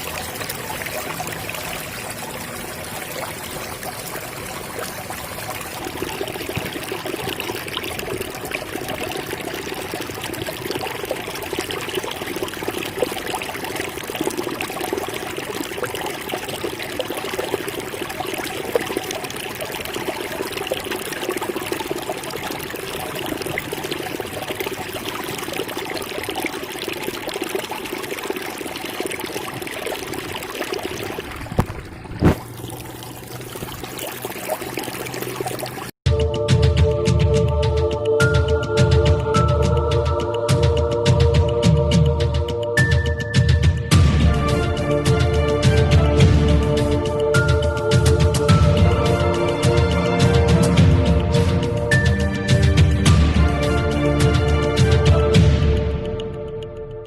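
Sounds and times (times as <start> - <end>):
water running and trickling: 0.0 - 36.0, 44.0 - 57.0.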